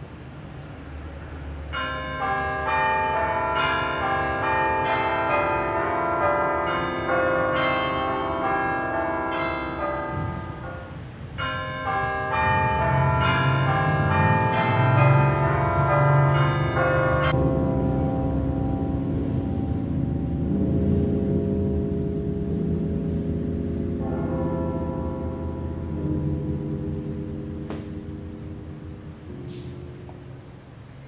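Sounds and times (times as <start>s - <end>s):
bell-like struck tones music: 1.8s - 31.0s.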